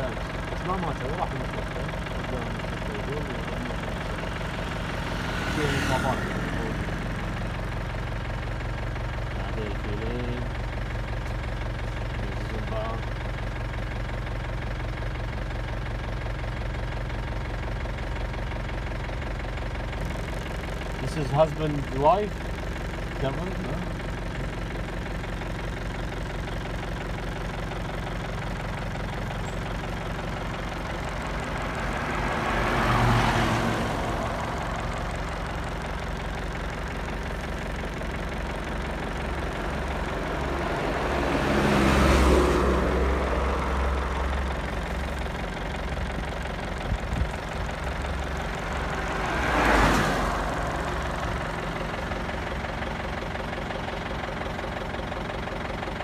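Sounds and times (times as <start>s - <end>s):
vehicle engine idling: 0.0s - 56.0s
vehicles passing on road: 0.0s - 56.0s.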